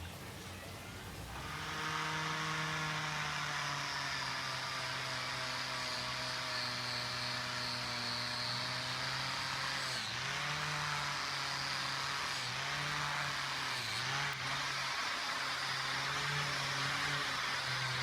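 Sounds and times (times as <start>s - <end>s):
power tool motor running: 1.2s - 18.0s.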